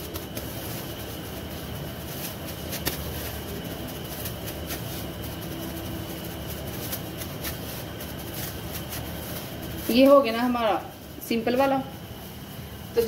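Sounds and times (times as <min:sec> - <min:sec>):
plastic gloves crinkling: 0:00.0 - 0:13.0
steady low hum: 0:00.0 - 0:13.0.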